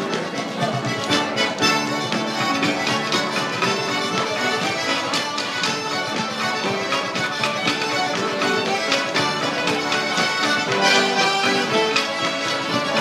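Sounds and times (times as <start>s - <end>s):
fiddle and dulcimer reel: 0.0s - 13.0s
sharp beat taps: 0.0s - 13.0s.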